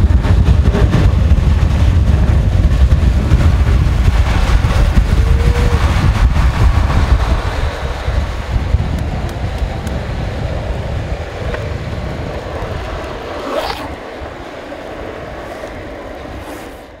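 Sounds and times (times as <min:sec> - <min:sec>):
skateboard wheels rolling on asphalt: 0:00.0 - 0:17.0
wind on microphone: 0:00.0 - 0:17.0.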